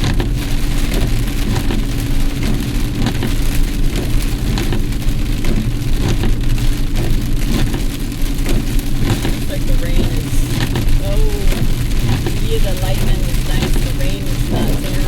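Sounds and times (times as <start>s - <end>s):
car engine and road rumble: 0.0s - 15.0s
heavy rain pelting a car: 0.0s - 15.0s.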